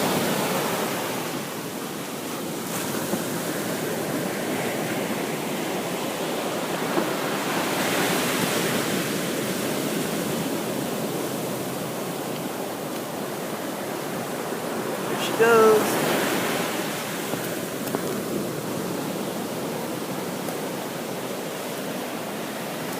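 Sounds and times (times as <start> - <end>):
waves breaking on beach: 0.0 - 22.9.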